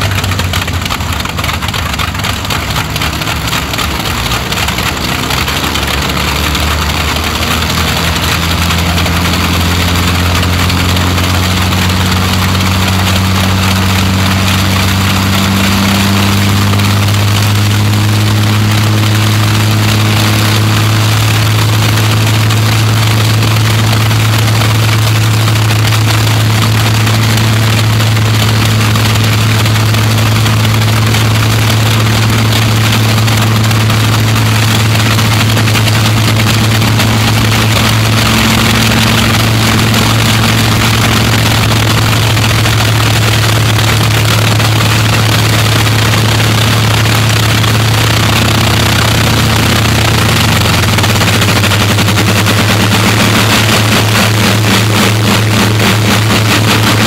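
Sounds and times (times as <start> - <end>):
aircraft engines droning: 0.0 - 57.0.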